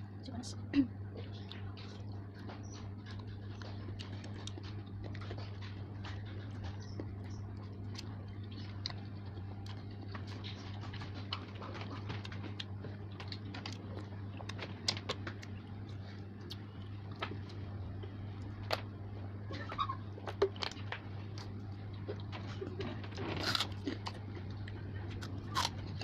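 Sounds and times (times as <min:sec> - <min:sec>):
steady low hum: 0:00.0 - 0:26.0
chewing noodles: 0:01.2 - 0:26.0.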